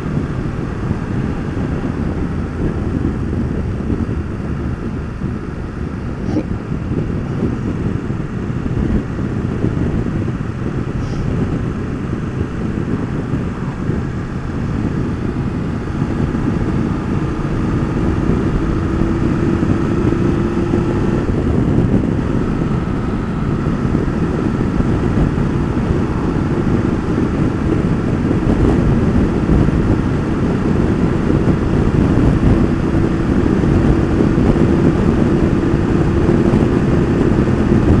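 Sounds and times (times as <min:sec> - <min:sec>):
motorcycle engine running: 0:00.0 - 0:38.0
wind rushing over microphone: 0:00.0 - 0:38.0.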